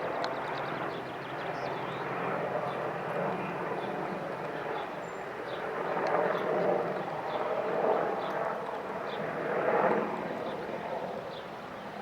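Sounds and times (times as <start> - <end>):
helicopter flying by: 0.0 - 11.2.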